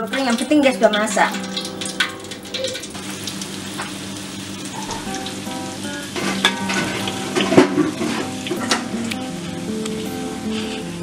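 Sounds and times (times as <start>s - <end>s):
deep-frying sizzle in oil: 0.0s - 11.0s.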